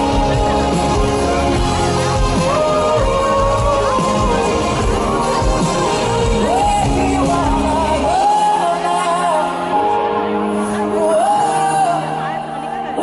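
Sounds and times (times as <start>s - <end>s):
pop band playing: 0.0s - 13.0s.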